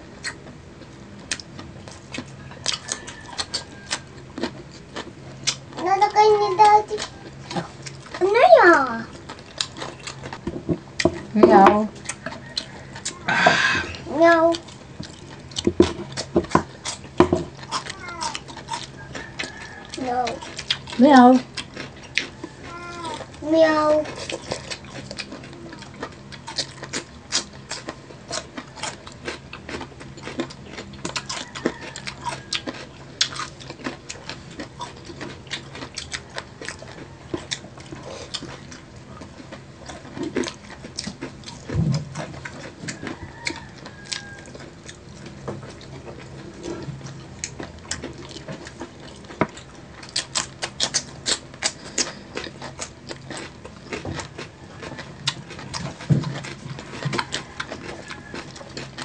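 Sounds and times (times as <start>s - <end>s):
chewing and crunching: 0.0s - 59.0s
steady low hum: 0.0s - 59.0s.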